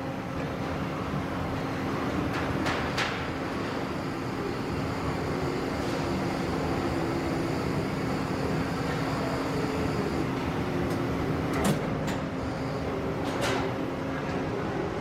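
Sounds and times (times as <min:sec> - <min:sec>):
industrial machinery hum: 0:00.0 - 0:15.0.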